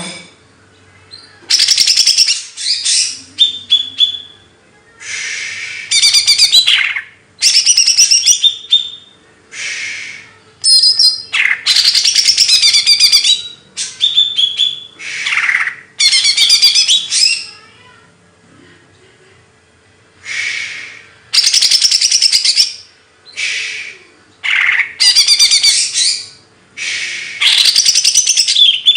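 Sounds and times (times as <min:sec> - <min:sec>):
songbird chattering: 0:01.1 - 0:04.4, 0:05.0 - 0:17.6, 0:20.3 - 0:28.9.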